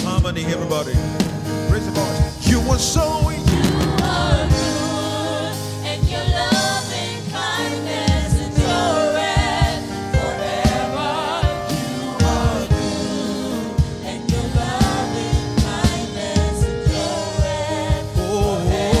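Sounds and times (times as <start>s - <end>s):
band with drums and bass: 0.0s - 19.0s
voices singing in harmony: 1.7s - 19.0s.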